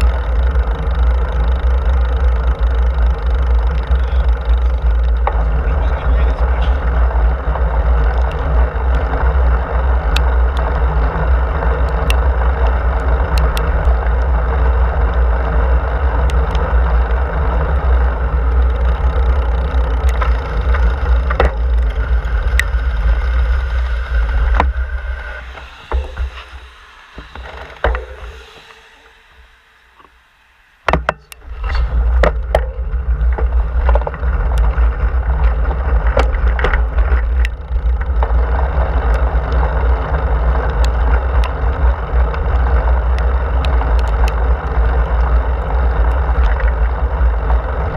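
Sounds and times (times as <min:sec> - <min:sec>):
tyre noise on pavement: 0:00.0 - 0:25.3, 0:30.9 - 0:47.9
wind rumbling on microphone: 0:00.0 - 0:30.1, 0:30.9 - 0:47.9.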